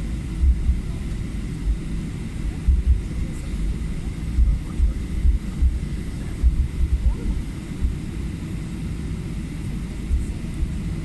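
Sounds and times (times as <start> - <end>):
airplane rumbling: 0.0 - 11.0.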